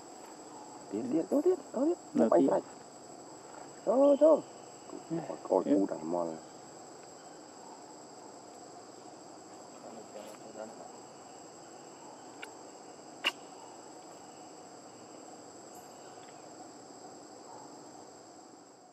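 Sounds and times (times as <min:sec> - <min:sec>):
insects chirring: 0:00.0 - 0:18.9.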